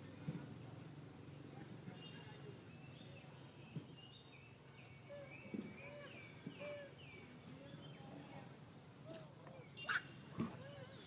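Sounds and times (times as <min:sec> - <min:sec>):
faint high chirping calls: 0:01.4 - 0:08.5, 0:09.1 - 0:11.0.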